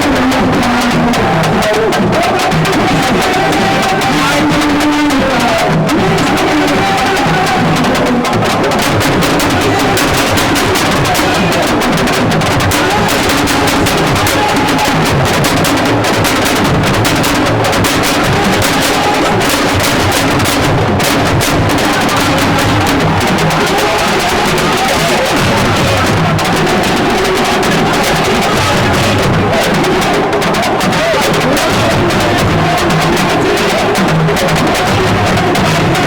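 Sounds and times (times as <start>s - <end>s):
loud music with fast drumming: 0.0s - 36.0s.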